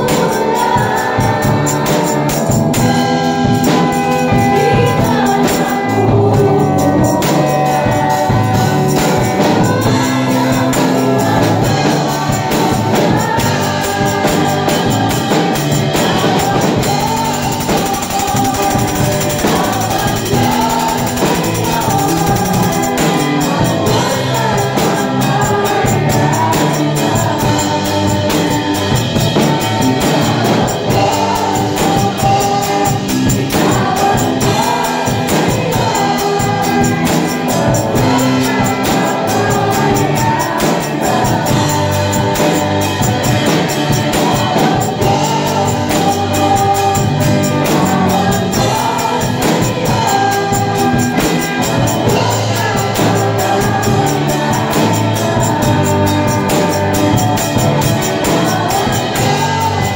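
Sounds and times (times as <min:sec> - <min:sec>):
backing voices singing: 0:00.0 - 0:59.9
band accompaniment with steady beat: 0:00.0 - 0:59.9
tambourine-like percussion: 0:00.0 - 0:59.9
woman singing lead: 0:00.0 - 0:59.9.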